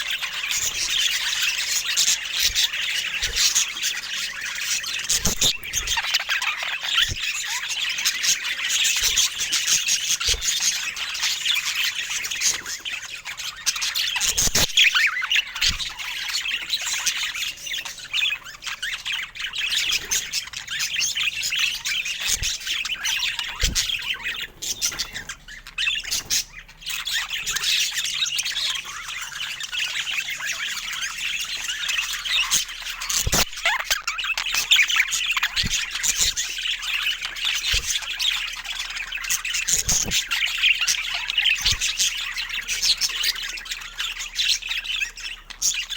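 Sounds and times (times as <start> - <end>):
budgies chattering and chirping: 0.0 - 45.9.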